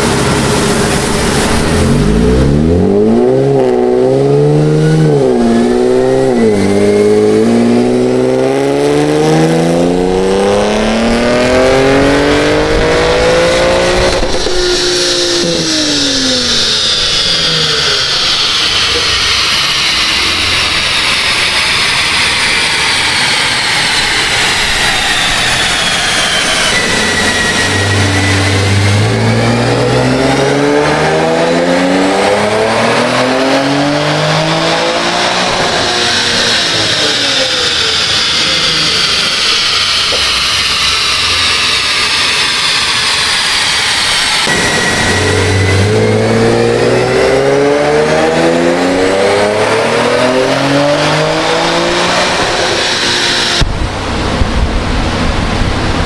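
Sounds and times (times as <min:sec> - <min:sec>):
car engine revving on dyno: 0:00.0 - 0:56.0
high whine spinning down: 0:00.0 - 0:56.0.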